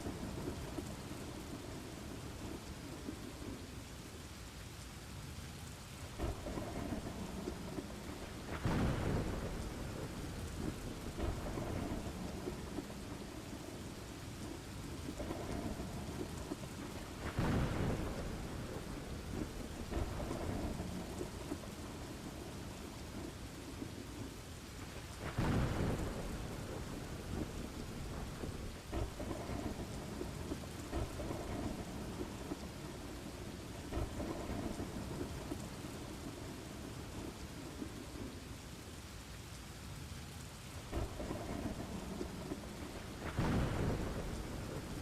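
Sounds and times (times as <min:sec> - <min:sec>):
steady rain: 0:00.0 - 0:45.0
thunder rolling: 0:06.2 - 0:38.3, 0:40.9 - 0:45.0.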